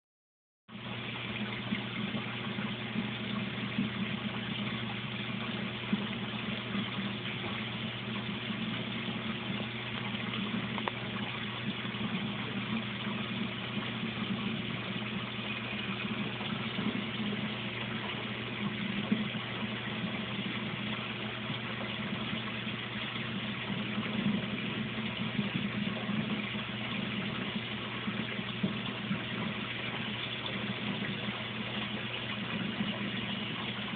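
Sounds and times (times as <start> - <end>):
aquarium filter pump humming: 0.7 - 33.9.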